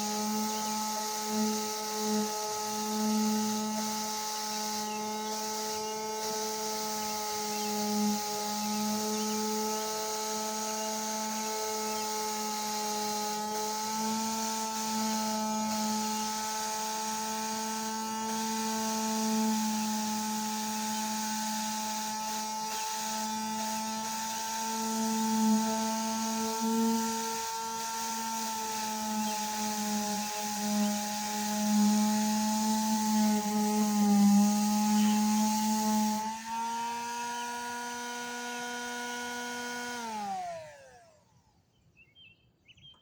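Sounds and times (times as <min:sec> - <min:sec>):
power sander grinding metal: 0:00.0 - 0:41.4.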